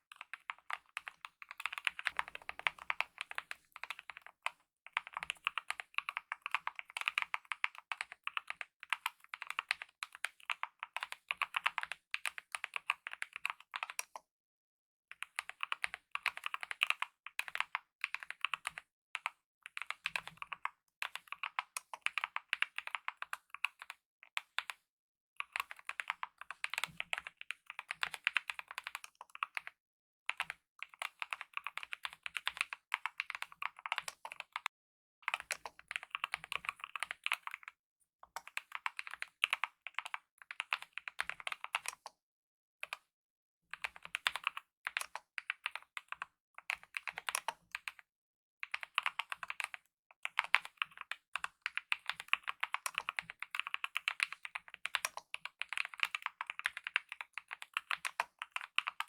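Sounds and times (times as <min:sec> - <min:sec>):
typing on mechanical keyboard: 0:00.1 - 0:14.2, 0:15.2 - 0:24.8, 0:25.4 - 0:34.7, 0:35.3 - 0:42.2, 0:43.7 - 0:59.0.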